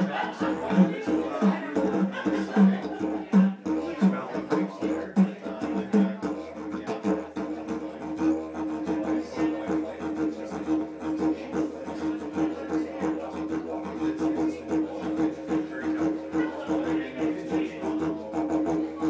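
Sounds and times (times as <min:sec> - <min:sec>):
didgeridoo drone: 0:00.0 - 0:19.0.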